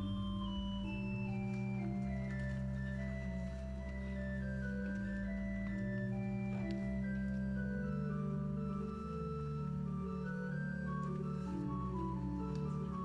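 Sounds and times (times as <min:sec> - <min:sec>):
church organ chords: 0:00.0 - 0:13.0.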